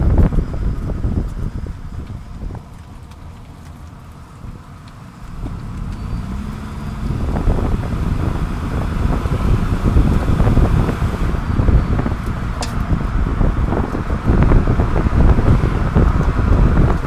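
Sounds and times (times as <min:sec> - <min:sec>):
car road and tyre rumble: 0:00.0 - 0:17.0.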